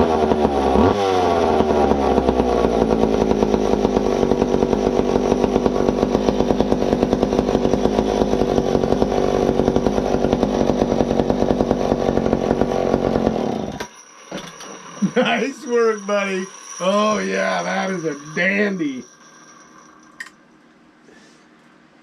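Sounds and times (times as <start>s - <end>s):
chainsaw idling: 0.0s - 20.3s.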